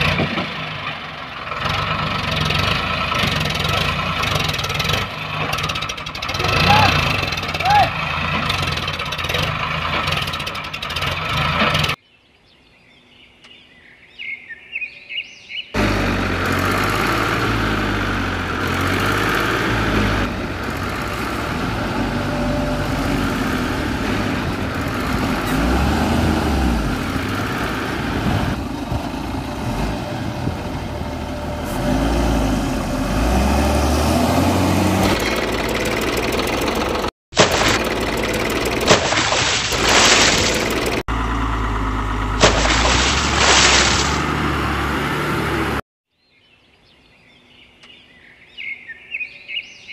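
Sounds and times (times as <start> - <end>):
tractor engine running: 0.0 - 12.0, 15.8 - 45.8.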